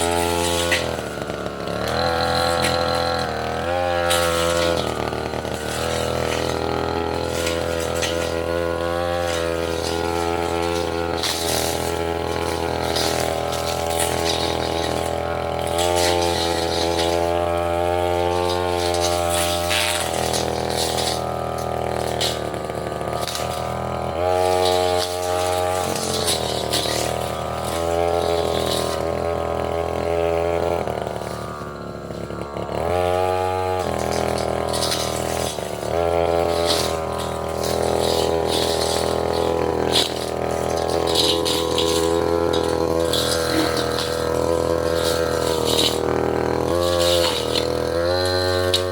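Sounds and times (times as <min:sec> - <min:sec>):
brush cutter engine running: 0:00.0 - 0:48.9.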